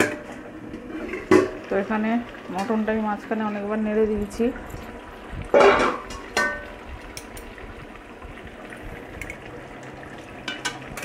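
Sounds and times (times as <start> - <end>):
curry bubbling: 0.0 - 11.0.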